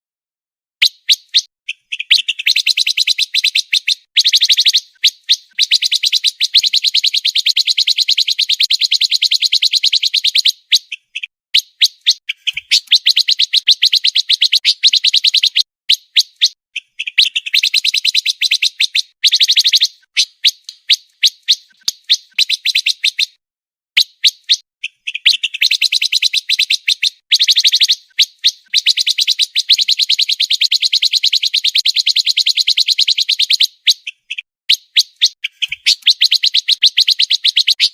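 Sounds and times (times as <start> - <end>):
songbird trilling: 0.8 - 23.4, 24.0 - 37.9.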